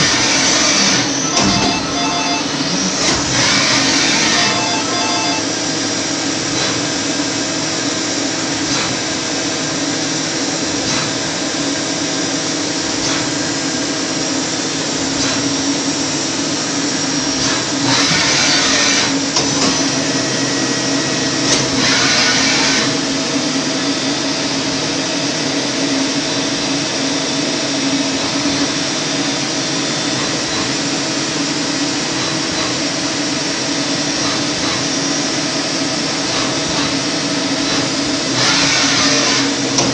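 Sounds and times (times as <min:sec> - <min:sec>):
lathe machine hum and whine: 0:00.0 - 0:39.9.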